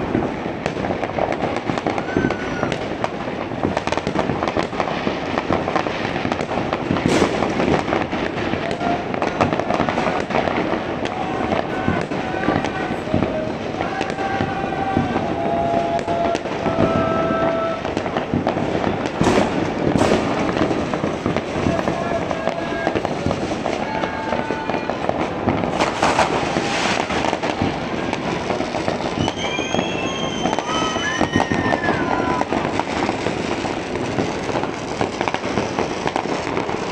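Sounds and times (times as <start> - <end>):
firecrackers crackling: 0.0 - 36.9
fireworks bangs: 0.0 - 36.9
whistling fireworks: 0.0 - 36.9.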